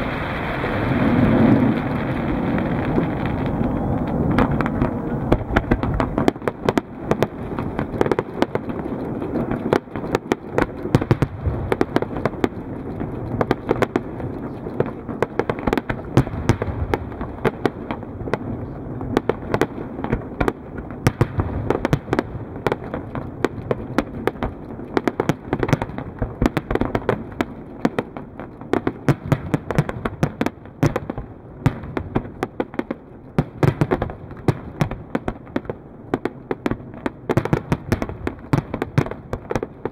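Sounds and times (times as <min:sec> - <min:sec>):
fireworks cracking and popping: 0:00.0 - 0:39.9
low rumble of fireworks: 0:00.0 - 0:39.9.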